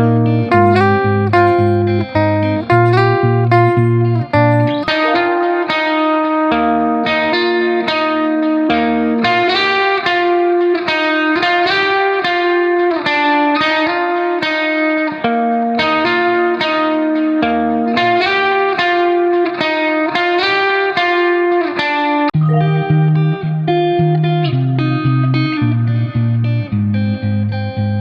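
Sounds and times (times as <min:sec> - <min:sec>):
electric guitar plucked melody: 0:00.0 - 0:28.0.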